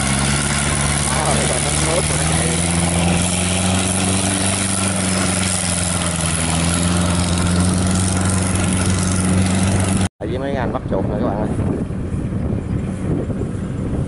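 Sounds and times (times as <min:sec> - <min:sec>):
tracked carrier engine running: 0:00.0 - 0:14.0.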